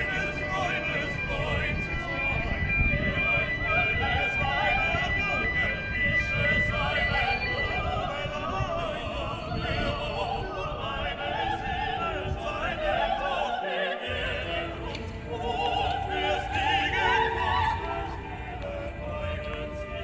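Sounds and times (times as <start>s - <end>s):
operatic singing with classical music: 0.0s - 20.0s.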